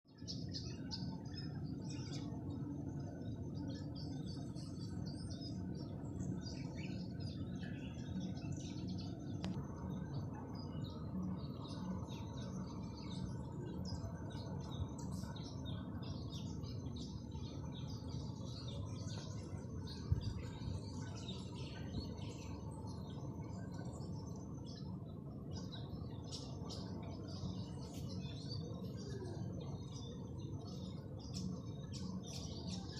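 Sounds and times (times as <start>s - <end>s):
low background rumble: 0.1s - 32.9s
small birds chirping: 0.1s - 32.9s.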